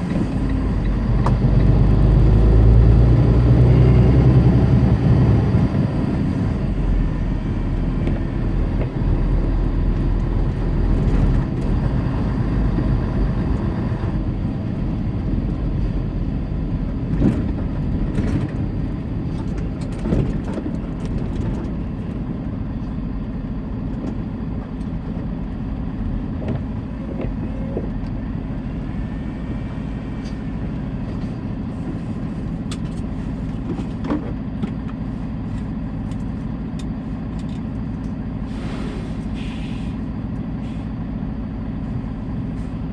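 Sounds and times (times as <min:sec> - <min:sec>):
diesel truck engine hum: 0:00.0 - 0:42.9
tyre and road noise: 0:00.0 - 0:42.9.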